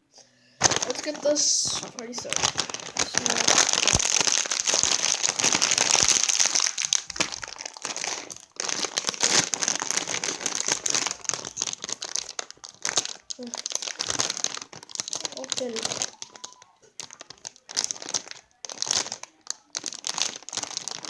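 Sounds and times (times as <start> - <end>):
foil chip bag crackling: 0.6 - 21.0.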